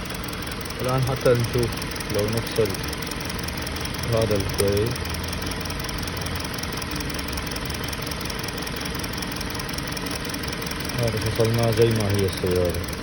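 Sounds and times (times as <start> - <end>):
car engine idling unevenly: 0.0 - 13.0.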